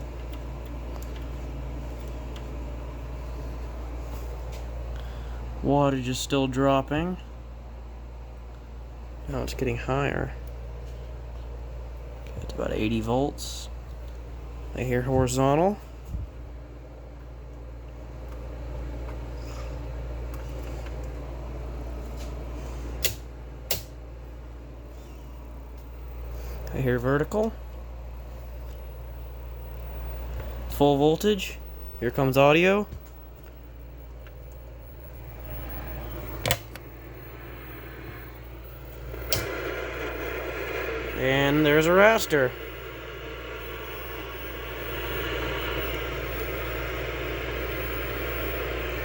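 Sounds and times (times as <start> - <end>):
low electrical hum with hiss: 0.0 - 49.0.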